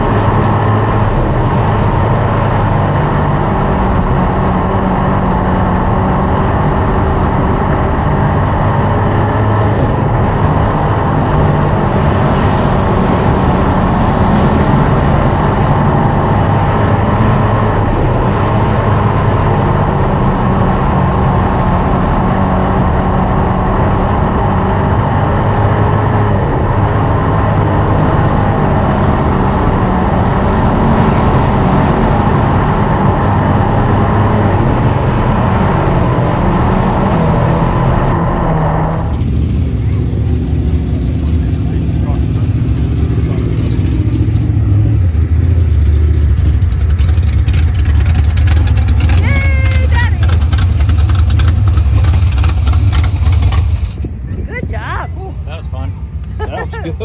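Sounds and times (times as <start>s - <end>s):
race car engines running hard: 0.0s - 57.0s.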